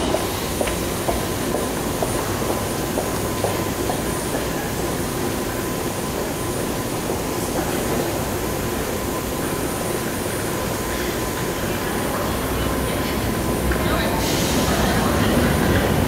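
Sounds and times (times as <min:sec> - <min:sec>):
train equipment hum and hiss: 0:00.0 - 0:16.0.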